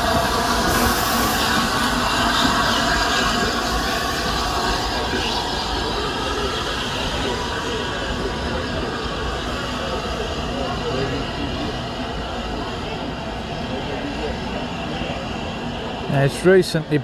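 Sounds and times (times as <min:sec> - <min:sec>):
steam locomotive running on rails: 0:00.0 - 0:17.0.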